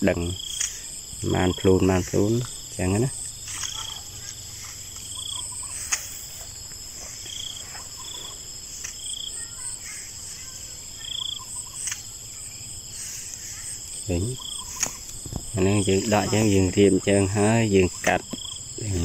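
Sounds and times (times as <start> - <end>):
insects chirring drone: 0.0 - 19.0.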